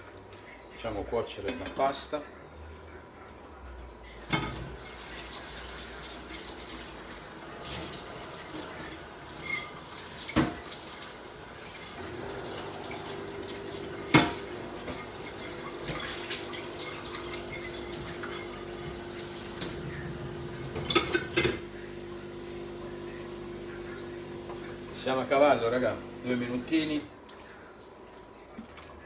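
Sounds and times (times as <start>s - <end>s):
pots simmering and boiling: 4.3s - 29.0s.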